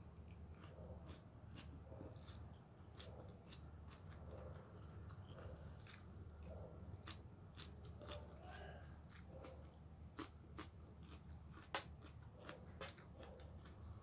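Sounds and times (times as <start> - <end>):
chewing crisp raw vegetables: 0.0 - 14.0
low steady hum: 0.0 - 14.0.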